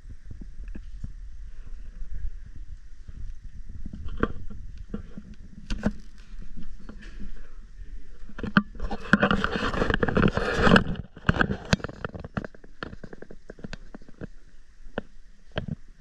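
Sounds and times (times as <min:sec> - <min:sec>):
microphone handling clicks and knocks: 0:00.0 - 0:15.9
rubbing and scraping: 0:00.6 - 0:15.8.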